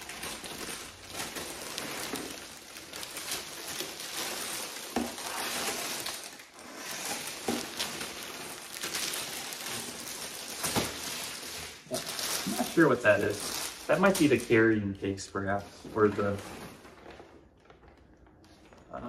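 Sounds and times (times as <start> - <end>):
packaging rustling and crinkling: 0.0 - 19.0.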